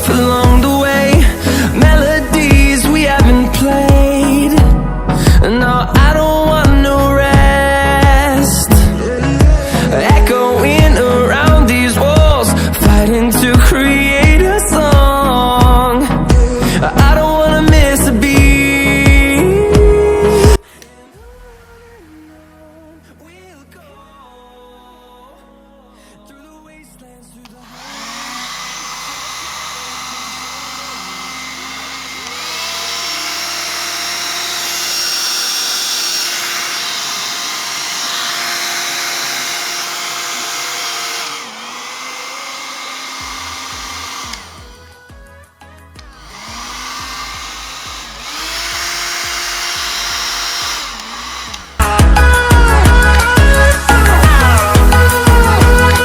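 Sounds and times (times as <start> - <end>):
hair dryer blowing: 0.0 - 6.1, 7.4 - 22.9, 27.6 - 45.3, 46.0 - 56.0
loud music: 0.0 - 23.7, 27.6 - 56.0.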